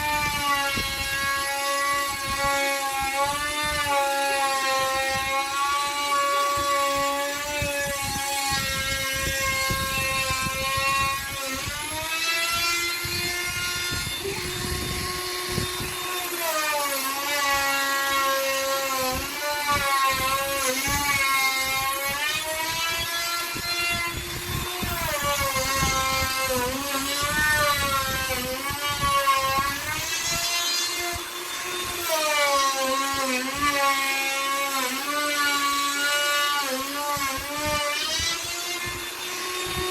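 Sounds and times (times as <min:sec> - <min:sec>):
electric router motor whine: 0:00.0 - 0:39.9.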